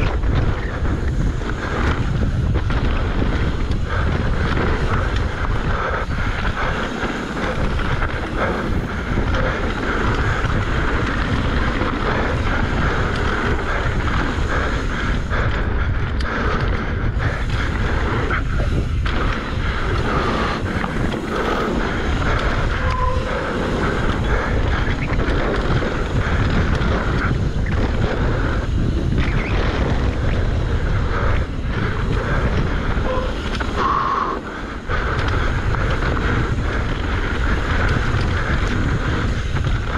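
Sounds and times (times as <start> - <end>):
bike knocks and rattles: 0.0 - 33.8, 34.6 - 39.9
bike tyres rumbling on dirt: 0.0 - 39.9
wind rushing over microphone: 0.0 - 39.9.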